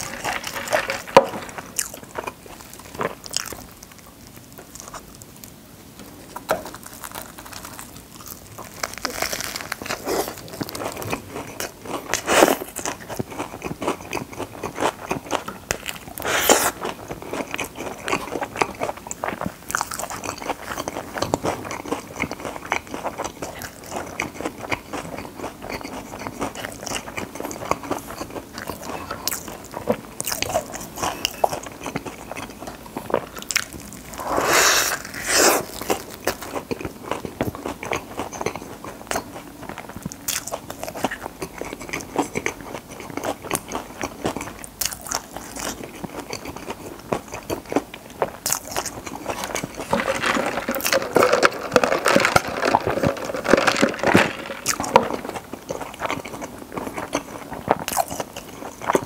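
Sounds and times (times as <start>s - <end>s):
crunchy chewing: 0.0s - 5.5s, 6.2s - 59.0s.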